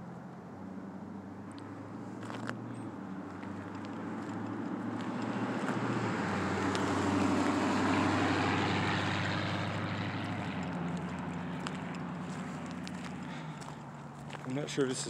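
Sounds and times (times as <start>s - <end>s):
passing vehicle engine: 0.1s - 15.0s.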